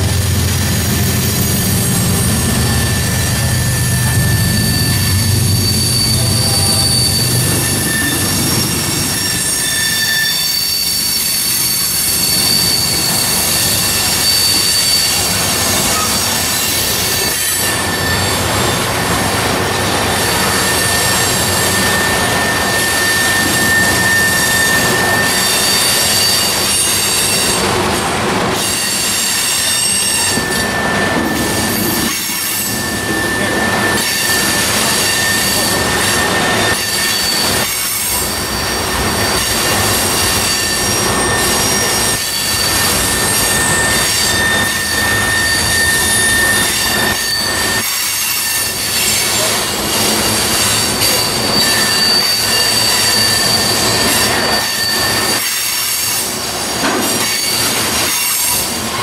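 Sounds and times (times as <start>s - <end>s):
passing train cars noise: 0.0s - 59.0s
train wheels squealing: 0.0s - 59.0s.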